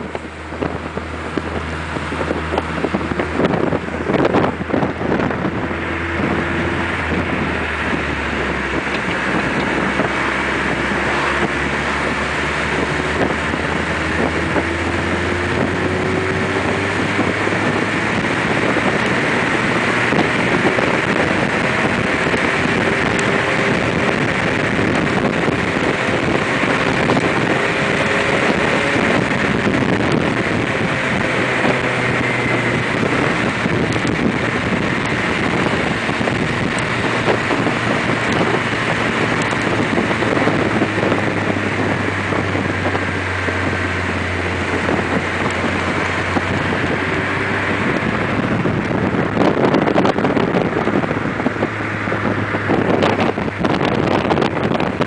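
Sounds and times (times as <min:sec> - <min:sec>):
car engine drone: 0:00.0 - 0:55.0
wind buffeting microphone: 0:00.0 - 0:55.0.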